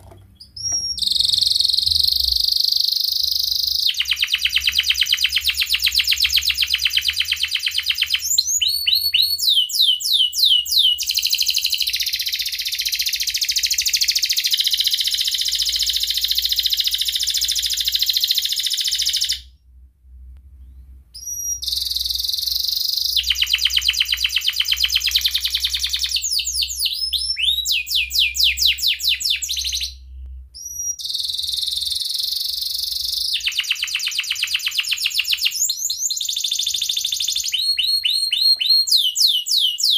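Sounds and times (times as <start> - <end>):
canary singing trills: 0.1 - 19.5, 20.6 - 39.9.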